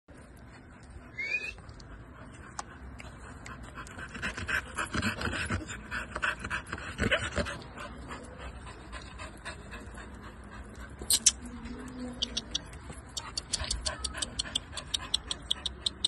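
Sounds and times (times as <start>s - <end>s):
dog panting: 0.1s - 16.0s.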